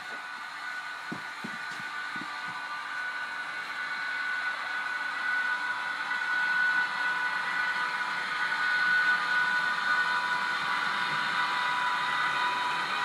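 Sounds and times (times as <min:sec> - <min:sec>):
model train motor whine: 0:00.0 - 0:13.0
wheels hissing on rail: 0:00.0 - 0:13.0.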